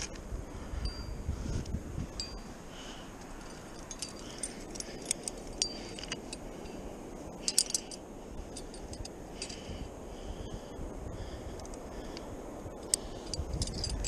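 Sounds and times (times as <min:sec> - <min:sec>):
metal climbing gear clinking: 0:00.8 - 0:09.9, 0:11.5 - 0:14.0.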